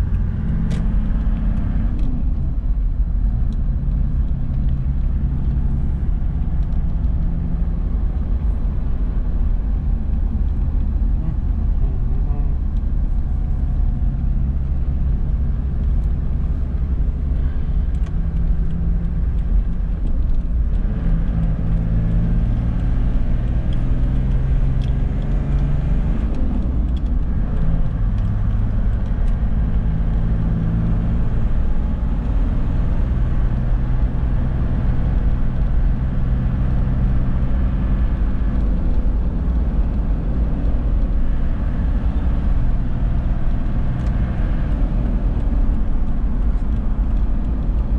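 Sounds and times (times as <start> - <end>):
engine and tyre drone: 0.0 - 47.9.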